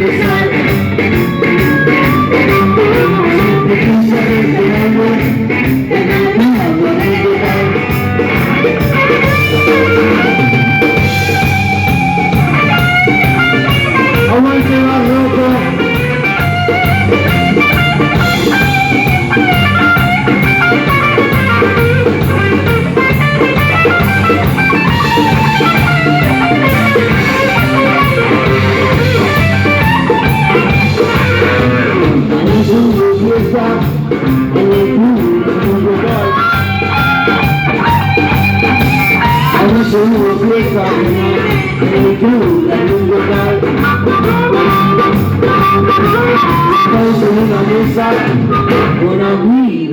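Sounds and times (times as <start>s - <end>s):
drum kit beat: 0.0s - 49.2s
bass: 0.0s - 49.9s
lead guitar: 0.0s - 49.9s.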